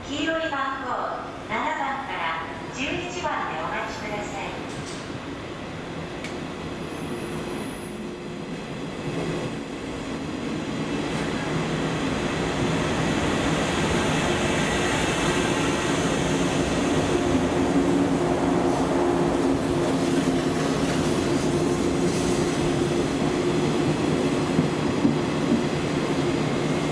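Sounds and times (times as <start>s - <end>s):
electric train passing: 5.2s - 26.9s.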